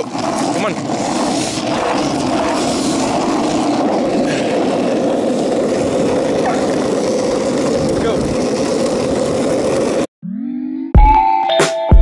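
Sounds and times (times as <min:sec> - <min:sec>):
skateboard wheels rolling on asphalt: 0:00.0 - 0:10.1.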